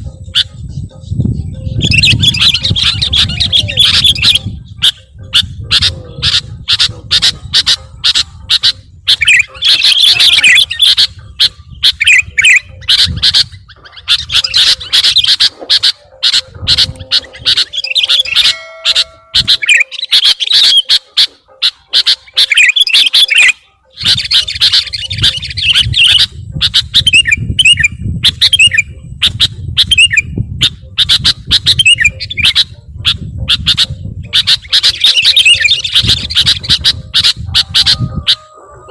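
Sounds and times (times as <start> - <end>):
bird chirps and squawks: 0.2 - 38.9.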